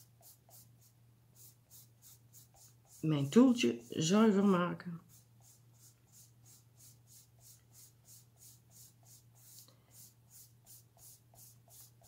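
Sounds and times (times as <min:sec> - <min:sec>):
tool scrubbing on paper: 0:00.0 - 0:12.0.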